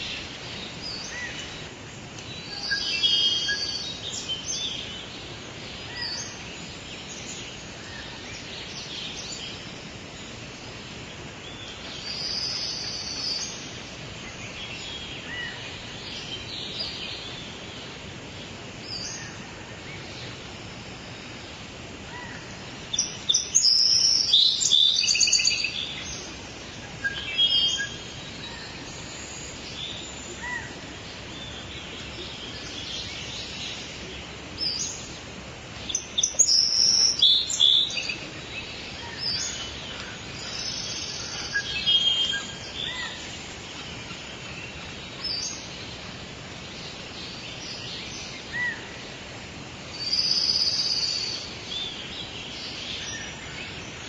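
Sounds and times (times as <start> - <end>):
outdoor background hiss: 0.0 - 54.0
songbirds singing and chirping: 0.0 - 54.0.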